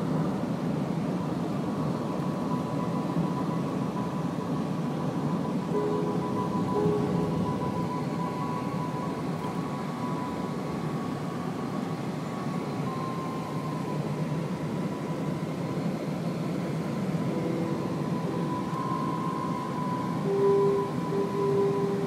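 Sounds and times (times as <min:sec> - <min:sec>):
road and engine noise in car: 0:00.0 - 0:22.0
faint held tones: 0:02.0 - 0:22.0.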